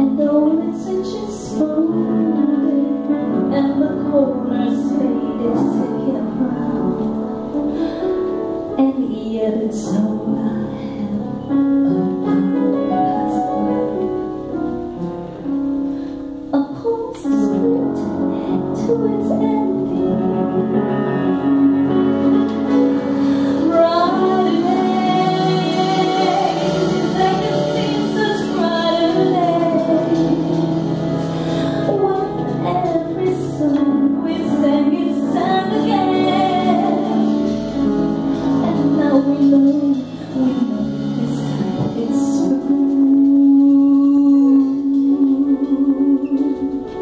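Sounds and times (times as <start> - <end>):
woman singing with vibrato: 0.0 - 7.3, 8.7 - 14.1, 16.5 - 21.5, 22.7 - 47.0
double bass: 0.0 - 47.0
piano: 0.0 - 47.0.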